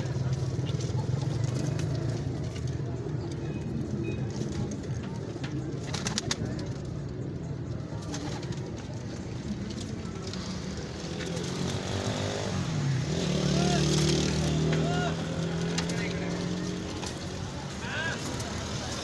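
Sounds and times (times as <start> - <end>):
market background hum: 0.0 - 19.0.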